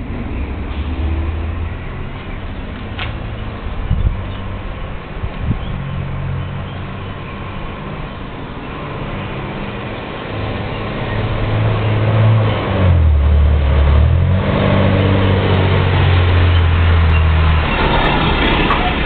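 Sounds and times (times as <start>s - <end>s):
garbage truck diesel engine: 0.0s - 19.0s.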